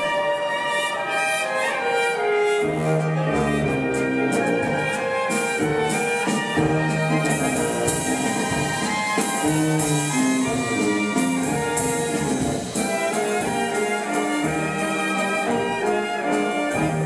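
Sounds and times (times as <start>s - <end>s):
brass band playing a waltz: 0.0s - 17.0s
drums: 2.4s - 17.0s.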